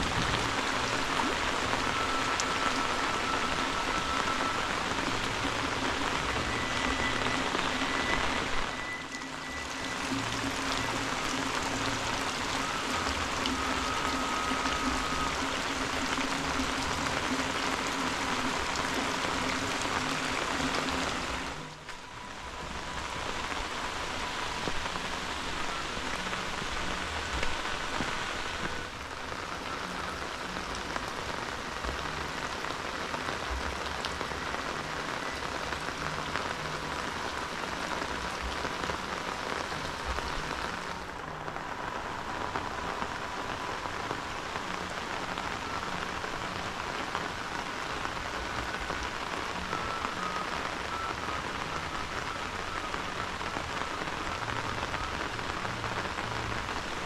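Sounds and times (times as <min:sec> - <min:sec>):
heavy rain on water: 0:00.0 - 0:57.0.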